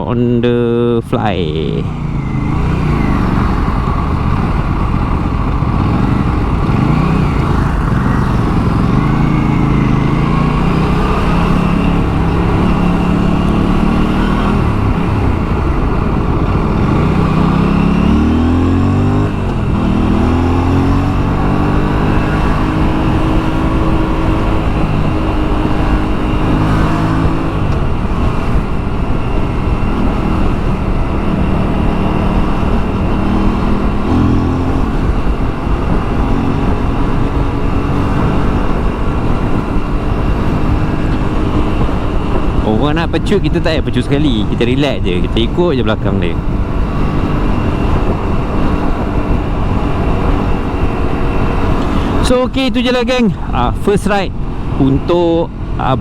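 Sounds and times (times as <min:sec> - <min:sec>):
motorcycle engine accelerating: 0:00.0 - 0:56.0
wind noise: 0:02.0 - 0:56.0.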